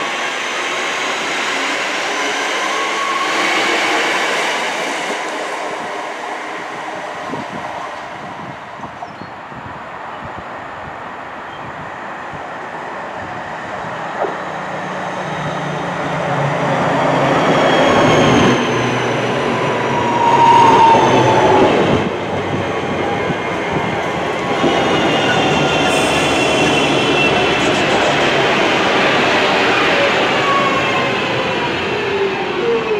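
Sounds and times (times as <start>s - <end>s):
train wheels on rails: 0.0s - 9.8s, 13.4s - 32.9s.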